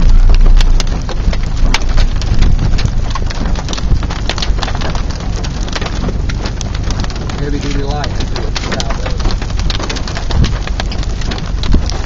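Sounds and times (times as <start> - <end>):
rain ticking on a vehicle: 0.0 - 12.0
steady low rumble: 0.0 - 12.0.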